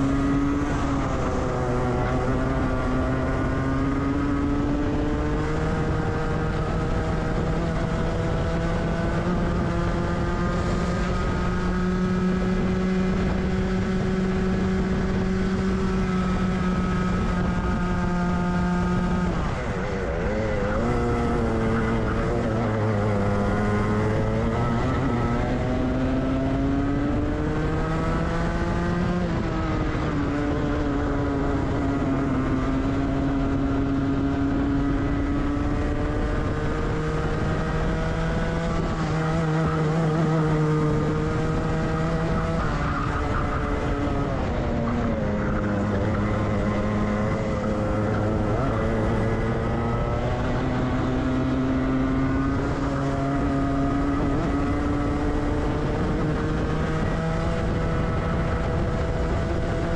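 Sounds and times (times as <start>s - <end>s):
two-stroke kart engine racing: 0.0s - 59.9s.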